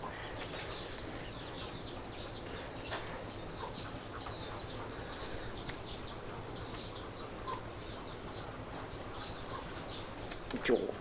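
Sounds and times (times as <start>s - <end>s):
birds chirping: 0.0s - 11.0s
outdoor background: 0.0s - 11.0s.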